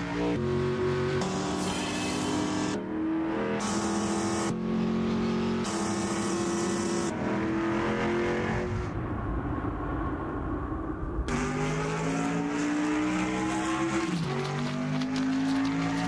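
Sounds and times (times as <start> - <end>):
race car engines at high revs: 0.0 - 9.0, 11.3 - 16.0.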